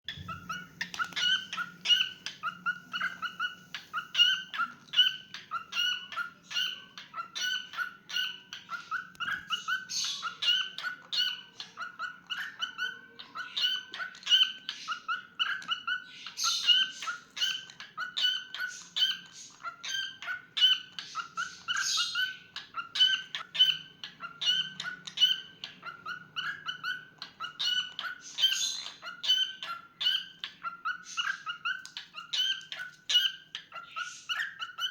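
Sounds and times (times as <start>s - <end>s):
cockatiel chirping: 0.1s - 34.9s.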